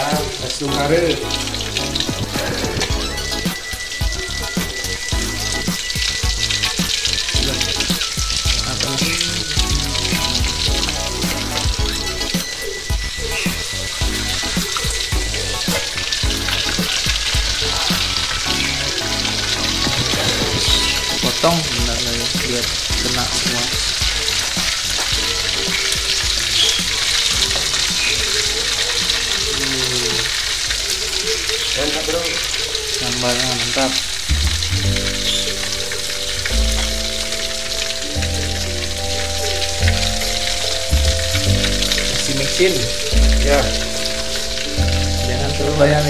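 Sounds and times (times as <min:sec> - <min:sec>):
background music with a beat: 0:00.0 - 0:29.2, 0:34.0 - 0:46.0
fish sizzling in hot oil: 0:00.0 - 0:46.0.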